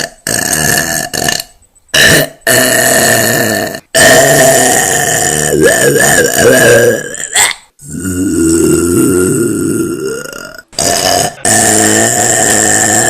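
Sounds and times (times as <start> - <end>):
person burping loudly: 0.0 - 13.0.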